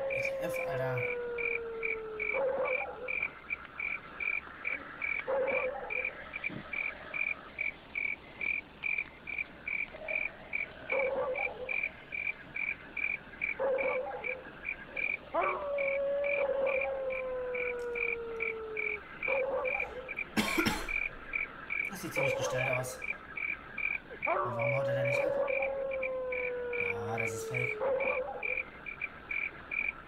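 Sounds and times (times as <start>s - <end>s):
cricket chirping: 0.0s - 30.0s.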